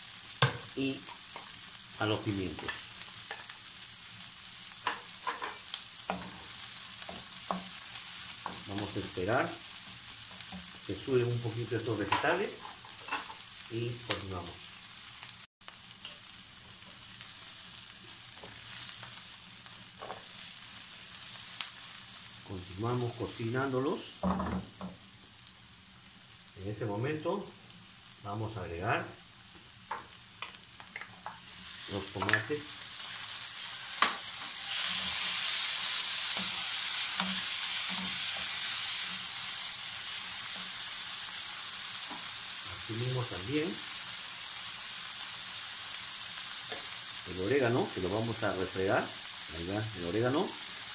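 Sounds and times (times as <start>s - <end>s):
vegetables sizzling in a frying pan: 0.0s - 50.9s.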